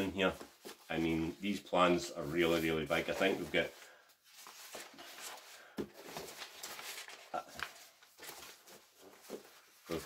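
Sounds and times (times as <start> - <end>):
paper sheets rustling: 0.0 - 10.0.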